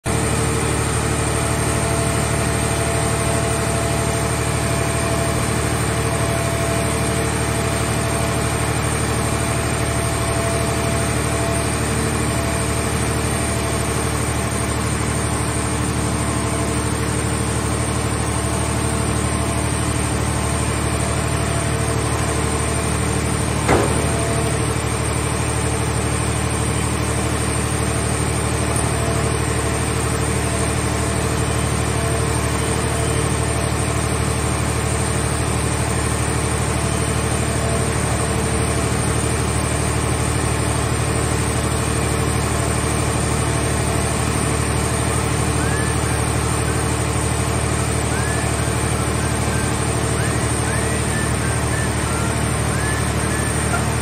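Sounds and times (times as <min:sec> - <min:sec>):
hydraulic machinery drone and hum: 0:00.1 - 0:54.0.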